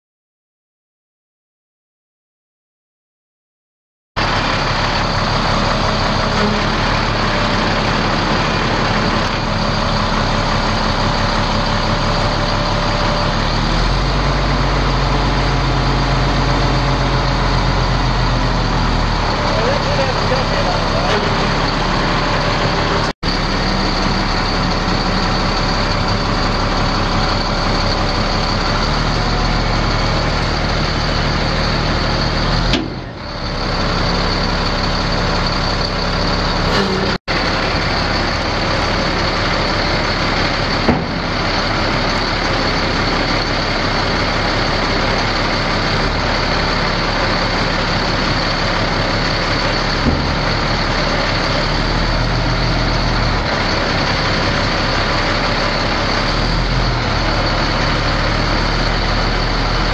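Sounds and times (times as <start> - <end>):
diesel truck idling: 4.2 - 59.9.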